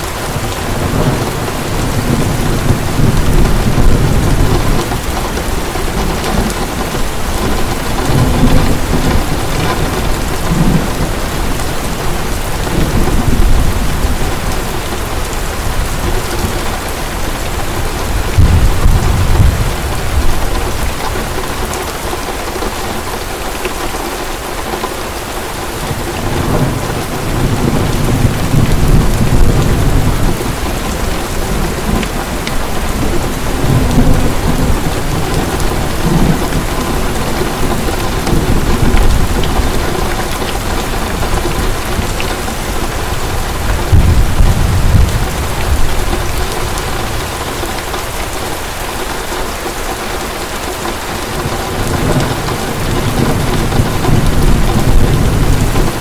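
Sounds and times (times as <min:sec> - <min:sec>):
low rolling thunder: 0:00.0 - 0:23.0, 0:25.6 - 0:49.8, 0:50.9 - 0:56.0
heavy rain falling: 0:00.0 - 0:56.0.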